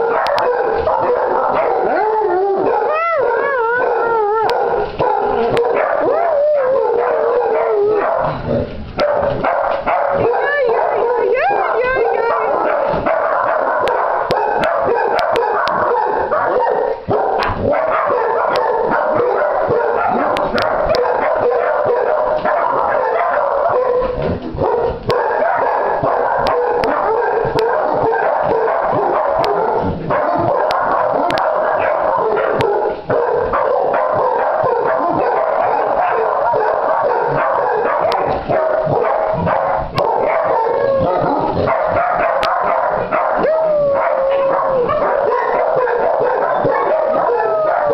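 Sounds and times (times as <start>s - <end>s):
puppies yipping and howling: 0.0s - 8.2s, 9.6s - 17.0s, 17.6s - 47.9s.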